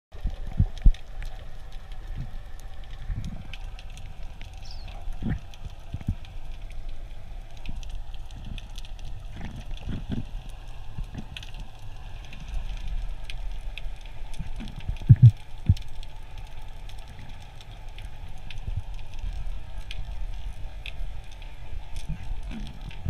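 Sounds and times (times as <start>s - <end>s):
faint clicks and crackles: 0.1s - 23.0s
underwater low rumble: 0.1s - 23.0s.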